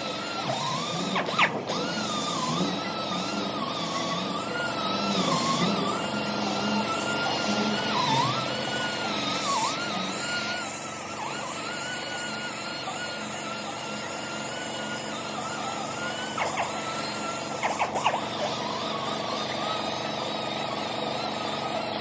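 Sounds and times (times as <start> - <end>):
power tool high whine: 0.0 - 22.0.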